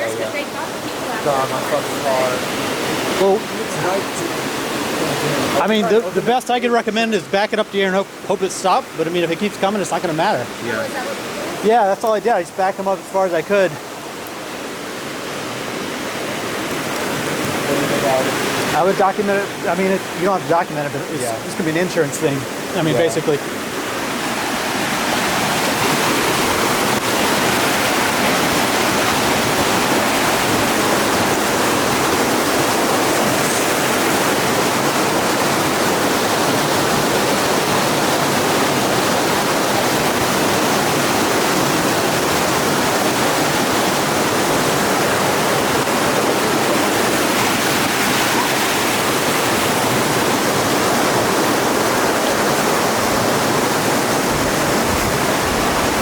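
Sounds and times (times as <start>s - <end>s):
floodwater running: 0.0s - 56.0s
heavy rain pouring: 0.0s - 56.0s.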